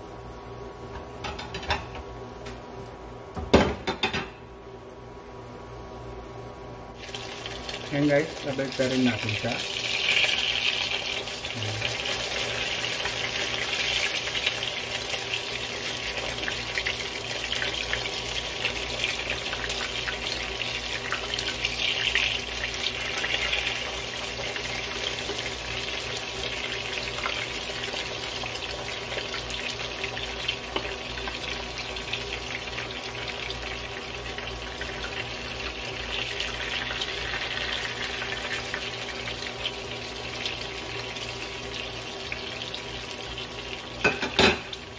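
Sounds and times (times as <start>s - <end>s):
oil sizzling in a wok: 6.9s - 44.9s.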